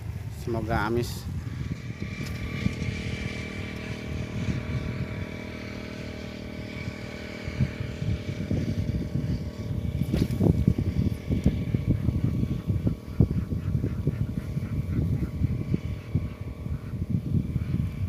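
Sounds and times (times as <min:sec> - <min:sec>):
small engine running: 0:00.0 - 0:18.0
wind on microphone: 0:00.0 - 0:18.0.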